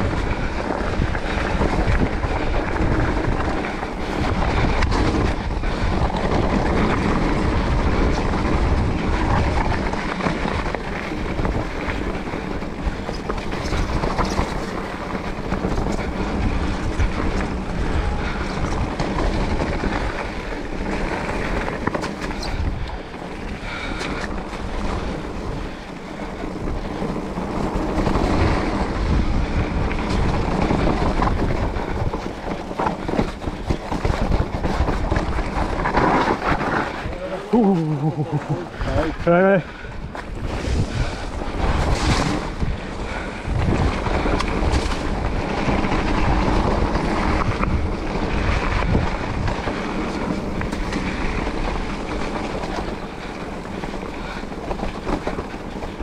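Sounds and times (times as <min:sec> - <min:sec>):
bike tyres rumbling on gravel: 0:00.0 - 0:56.0
wind buffeting microphone: 0:00.0 - 0:56.0.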